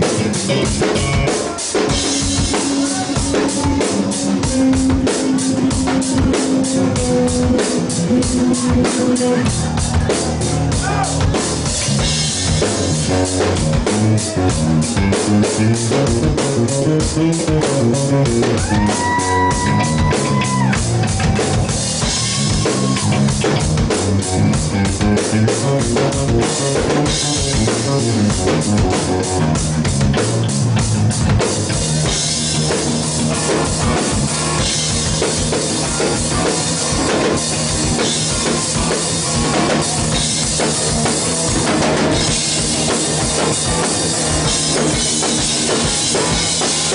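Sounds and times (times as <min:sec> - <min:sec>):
electric bass: 0:00.0 - 0:46.9
electric guitar: 0:00.0 - 0:46.9
pounding drum kit: 0:00.0 - 0:46.9
rock band playing: 0:00.0 - 0:46.9.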